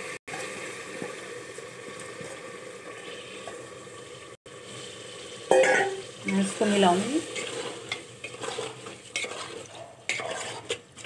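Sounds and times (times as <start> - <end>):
sauce sizzling and bubbling: 0.0 - 11.0.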